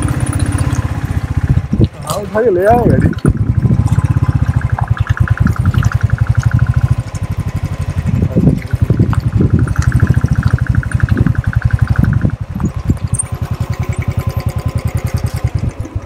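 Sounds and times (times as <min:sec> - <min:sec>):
motorcycle engine thumping: 0:00.0 - 0:16.0.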